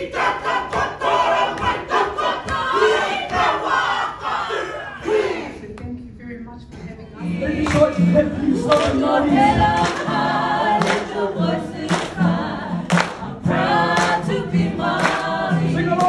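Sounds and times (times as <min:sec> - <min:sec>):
group singing and chanting: 0:00.0 - 0:05.8, 0:07.1 - 0:16.0.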